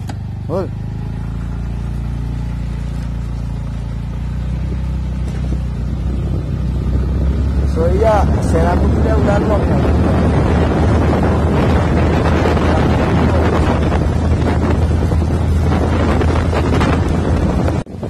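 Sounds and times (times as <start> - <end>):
wind buffeting microphone: 1.2 - 18.0.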